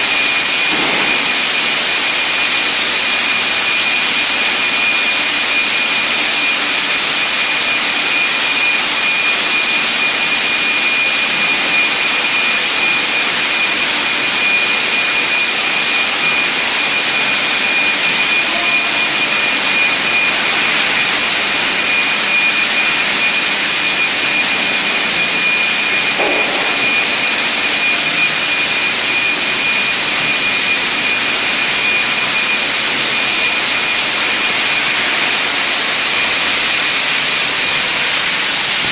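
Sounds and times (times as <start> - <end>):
machinery hissing with high whine: 0.0 - 38.9.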